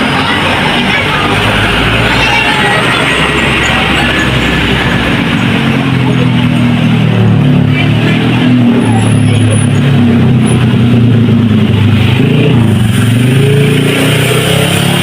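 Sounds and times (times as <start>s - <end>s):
bus diesel engine droning: 0.0s - 15.0s
road traffic: 0.0s - 15.0s.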